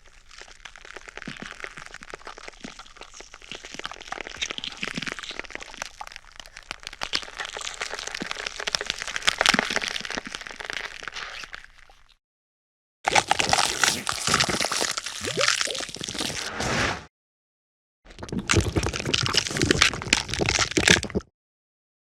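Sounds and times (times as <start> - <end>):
bone cracking and crackling: 0.0 - 12.1, 13.1 - 16.4, 18.1 - 21.3.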